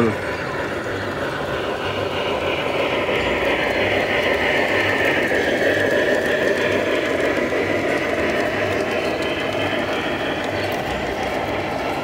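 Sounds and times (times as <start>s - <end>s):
model locomotive motor whirring: 0.0s - 12.0s.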